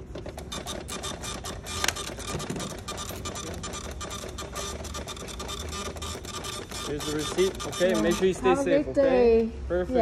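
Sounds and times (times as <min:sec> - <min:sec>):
receipt printer clicking: 0:00.1 - 0:08.4.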